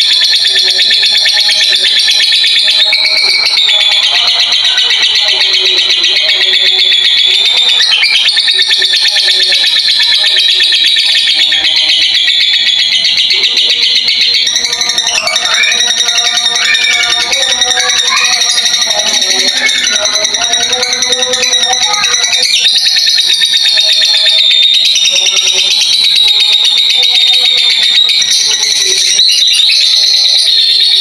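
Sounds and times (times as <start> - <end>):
lovebird chattering trill: 0.0 - 26.6.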